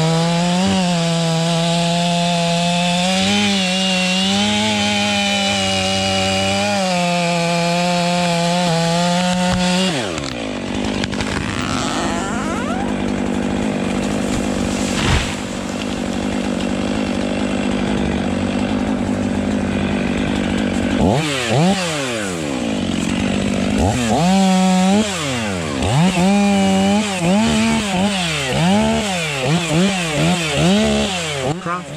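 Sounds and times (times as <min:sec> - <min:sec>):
chainsaw cutting wood: 0:00.0 - 0:31.9.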